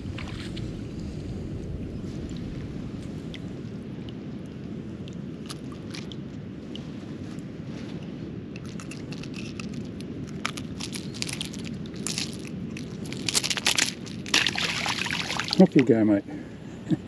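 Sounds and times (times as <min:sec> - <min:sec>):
steady low background noise: 0:00.0 - 0:17.0.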